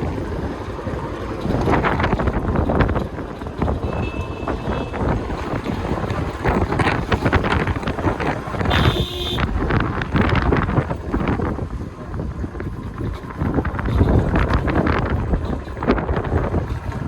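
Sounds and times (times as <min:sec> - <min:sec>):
vehicle running noise: 0:00.0 - 0:17.0
wind buffeting microphone: 0:00.0 - 0:17.0.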